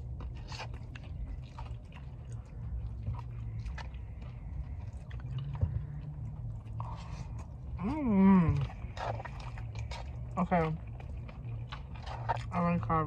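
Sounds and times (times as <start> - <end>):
chewing: 0.0 - 13.0
low steady hum: 0.0 - 13.0.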